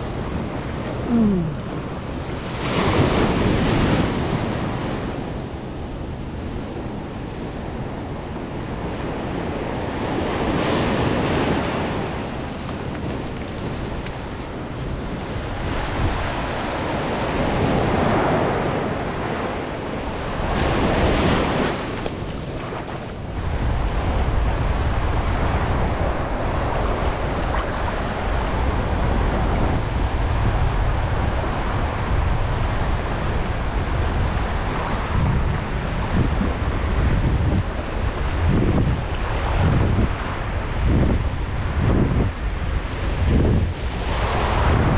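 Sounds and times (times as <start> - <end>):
surf waves washing on beach: 0.0 - 44.9
wind buffeting microphone: 0.0 - 44.9.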